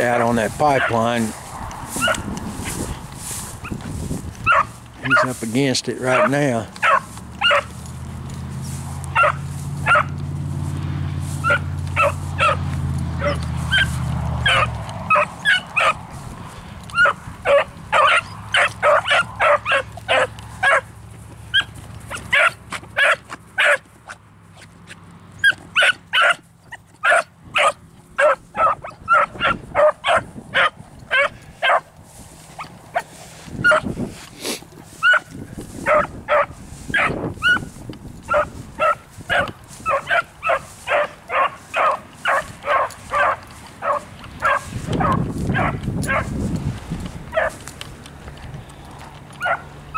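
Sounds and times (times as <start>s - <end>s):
dogs barking: 0.0s - 10.6s, 11.2s - 24.2s, 25.4s - 34.0s, 34.8s - 46.4s, 47.2s - 47.8s, 49.0s - 49.9s.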